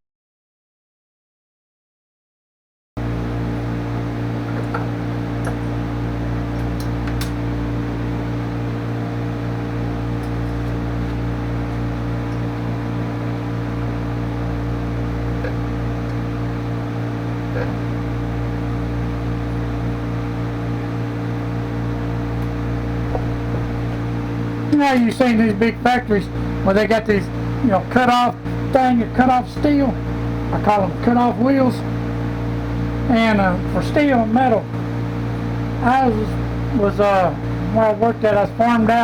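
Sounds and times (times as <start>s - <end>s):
workshop machine motor humming: 3.0s - 39.0s.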